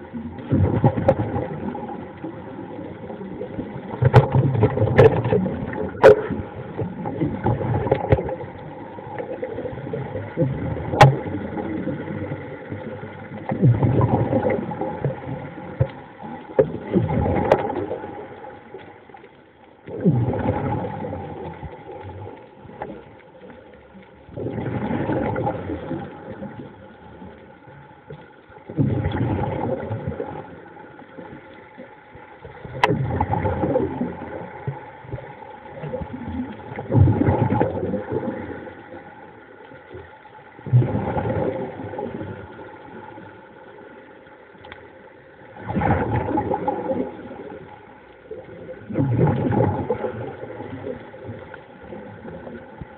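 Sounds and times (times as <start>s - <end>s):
faint steady hum: 0.0s - 52.9s
underwater bubbling: 0.0s - 52.9s.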